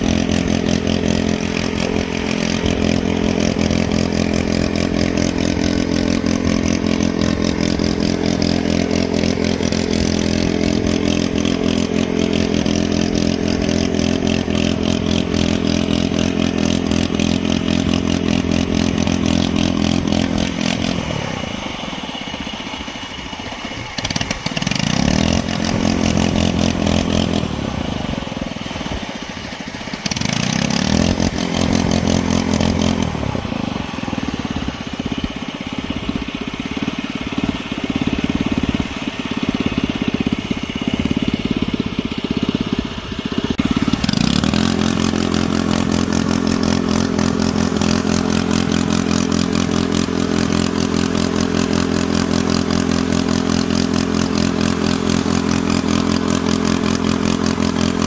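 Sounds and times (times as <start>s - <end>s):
model bulldozer engine running: 0.0s - 58.0s.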